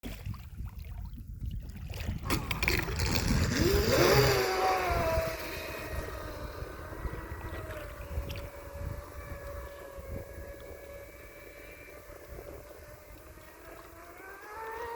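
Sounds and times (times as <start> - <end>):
wind buffeting microphone: 0.0 - 14.9
electric motor whining: 2.3 - 14.9.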